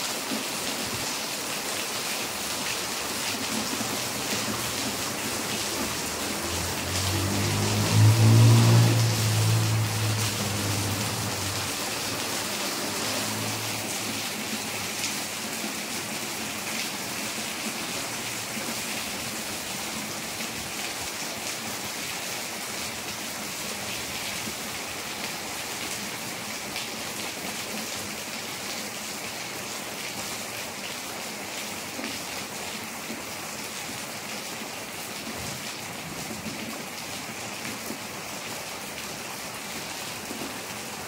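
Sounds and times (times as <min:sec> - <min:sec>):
rain on wet concrete: 0:00.0 - 0:41.0.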